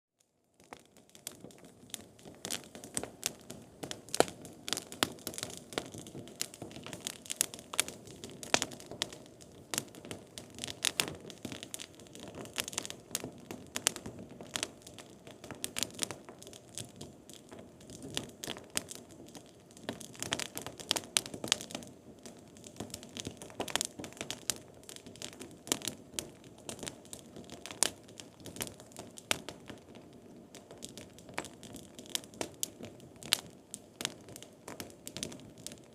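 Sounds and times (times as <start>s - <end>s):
campfire crackling and snapping: 0.6s - 35.9s.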